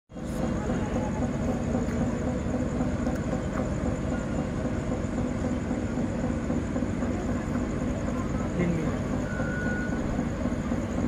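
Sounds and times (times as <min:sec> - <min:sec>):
ship engine droning: 0:00.1 - 0:11.0.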